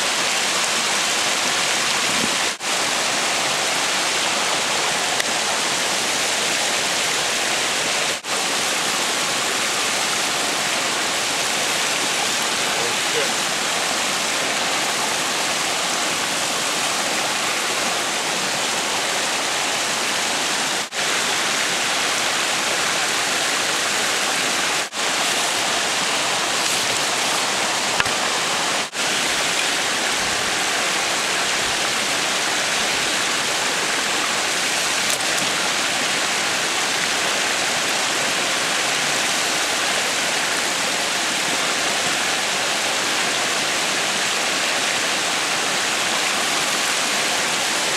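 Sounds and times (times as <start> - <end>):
creek water rushing: 0.0 - 47.9.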